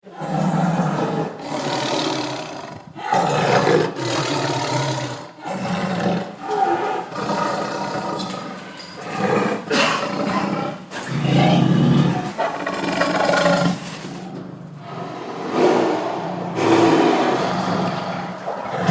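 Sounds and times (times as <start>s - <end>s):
tiger roaring and growling: 0.0s - 18.9s.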